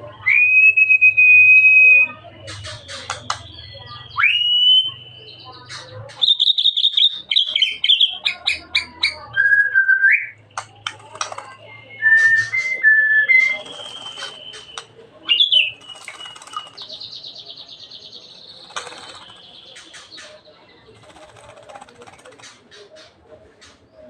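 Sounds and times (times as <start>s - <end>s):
songbird singing: 1.1s - 24.0s.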